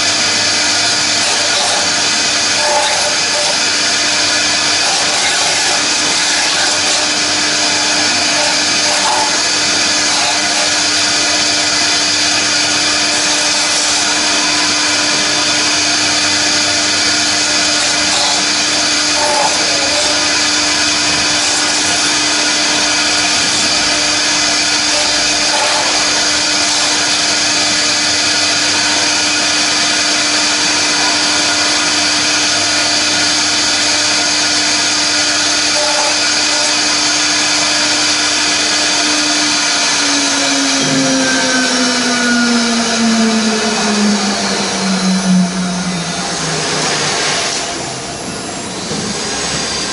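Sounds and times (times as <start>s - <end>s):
spindle high whine: 0.0s - 49.9s.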